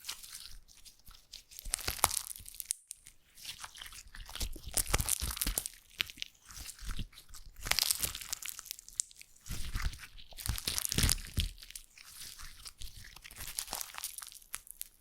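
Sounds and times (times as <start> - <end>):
slime squeezed crackling: 0.0 - 15.0.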